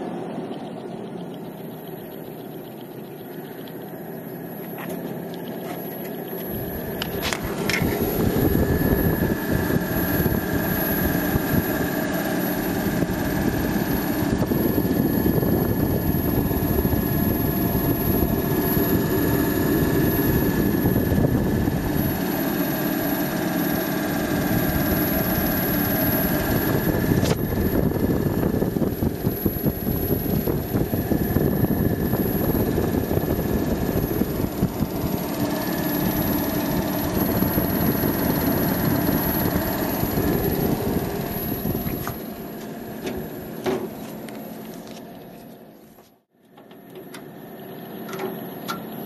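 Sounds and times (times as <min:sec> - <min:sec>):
steady high tone: 0:00.0 - 0:45.0
fan rushing air: 0:00.0 - 0:45.1.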